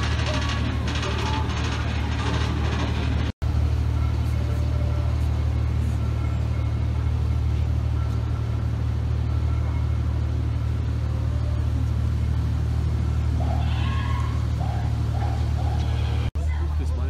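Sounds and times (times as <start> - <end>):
riverboat engine rumble: 0.0 - 17.0.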